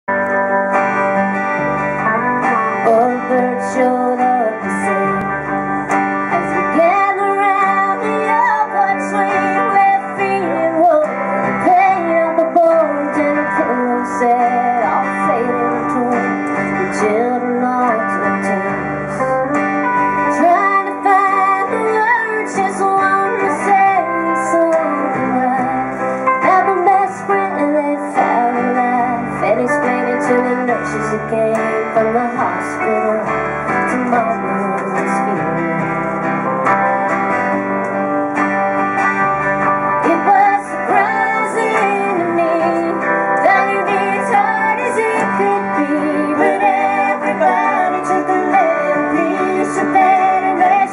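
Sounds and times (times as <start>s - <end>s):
guitar: 0.0s - 50.9s
woman singing: 2.6s - 19.3s, 20.2s - 36.1s, 39.9s - 50.9s.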